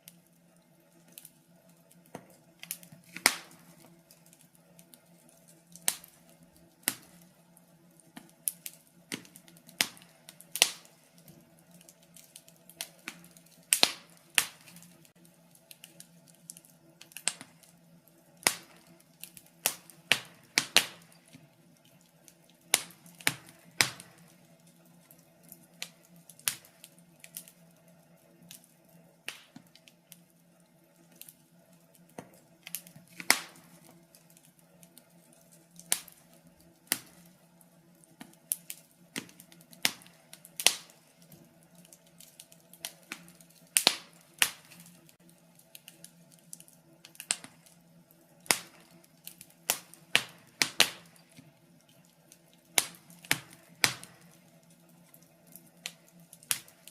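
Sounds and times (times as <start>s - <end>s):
fire crackling and popping: 0.0s - 56.9s.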